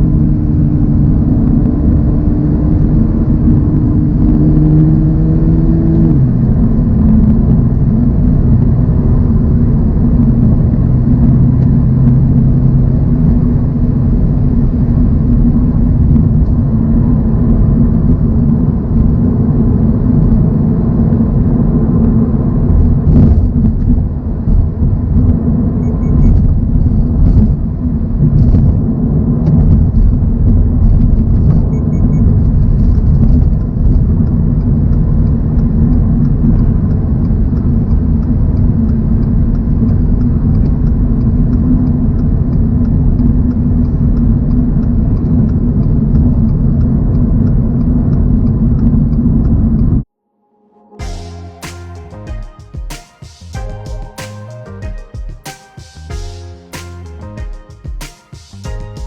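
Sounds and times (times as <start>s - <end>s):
car engine cruising: 0.0s - 50.1s.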